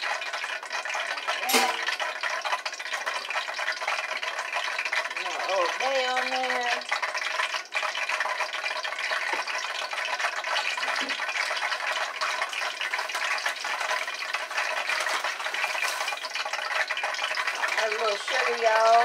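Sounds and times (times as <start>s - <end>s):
oil sizzling in a frying pan: 0.0s - 19.0s.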